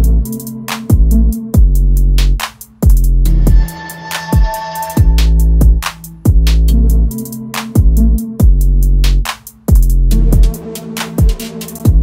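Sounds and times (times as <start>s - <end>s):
electronic hip-hop beat: 0.0s - 12.0s.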